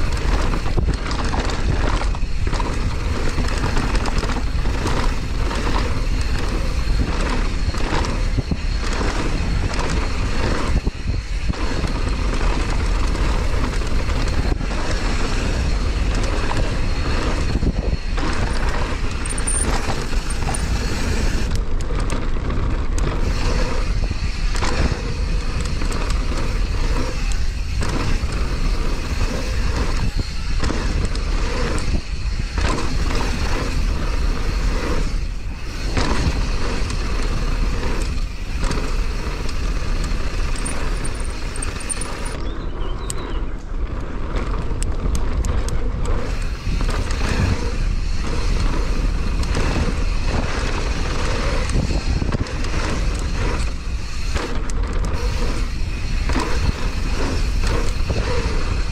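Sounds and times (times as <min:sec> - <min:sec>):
bike rattling over bumps: 0:00.0 - 0:58.9
rushing of tyres and air: 0:00.0 - 0:58.9.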